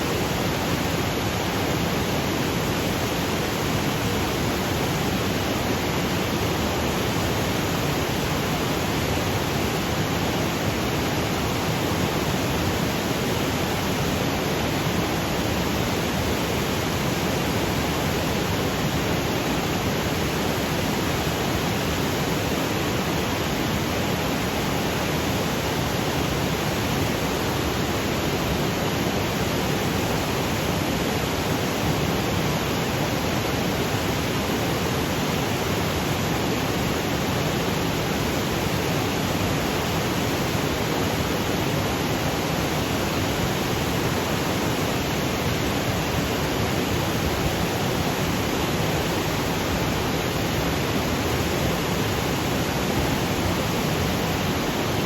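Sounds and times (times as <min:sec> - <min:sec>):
waterfall rushing over boulders: 0:00.0 - 0:55.0.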